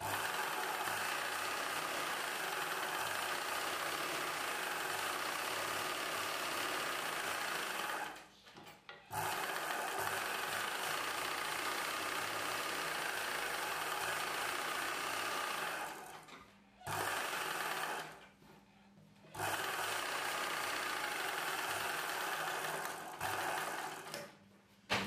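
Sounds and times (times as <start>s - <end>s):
sewing machine stitching: 0.0s - 8.3s, 9.0s - 18.2s, 19.3s - 24.4s.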